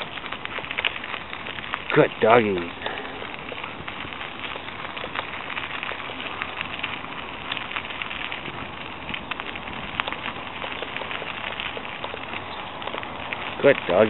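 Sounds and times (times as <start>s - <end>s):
bicycle tyres rolling on gravel: 0.0s - 14.0s
dog paws running: 0.0s - 14.0s.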